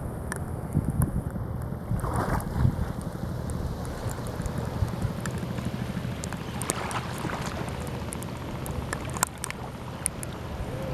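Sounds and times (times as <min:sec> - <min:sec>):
light ticks and splashes: 0:00.2 - 0:10.9
small waves lapping: 0:01.8 - 0:10.9.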